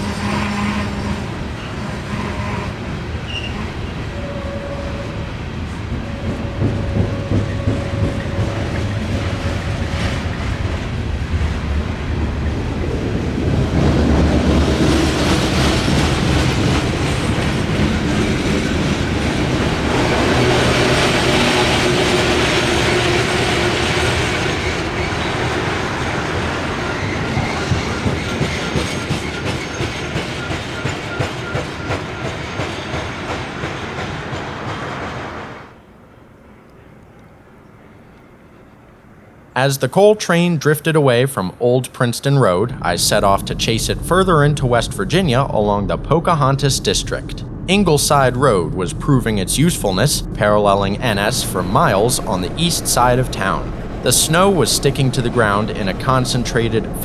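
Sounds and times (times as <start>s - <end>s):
train wheels clickety-clack: 0.0s - 35.8s, 42.7s - 57.0s.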